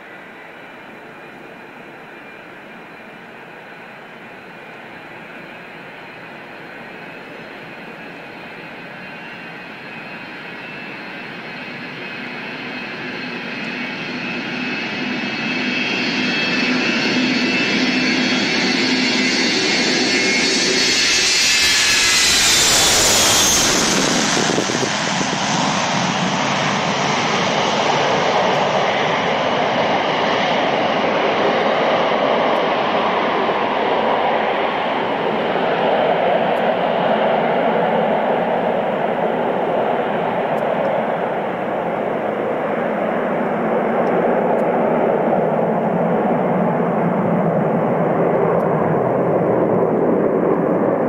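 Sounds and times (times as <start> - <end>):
jet engines whining: 0.0 - 51.0
jet aircraft rushing noise: 8.7 - 51.0.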